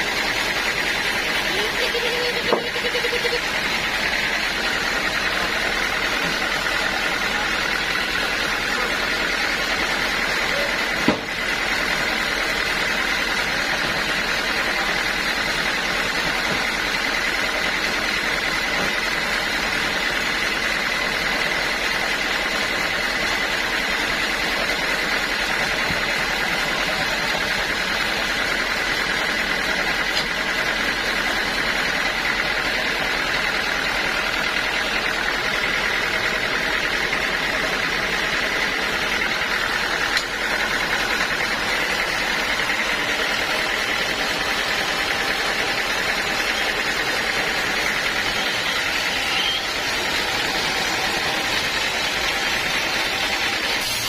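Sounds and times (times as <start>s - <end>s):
sawmill machinery whining: 0.0s - 54.0s.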